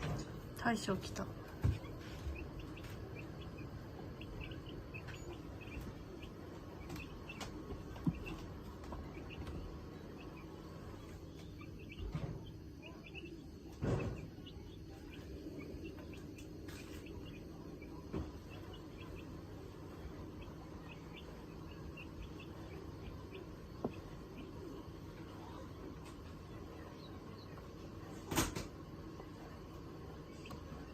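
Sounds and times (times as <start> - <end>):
ducks peeping: 0.0 - 30.9.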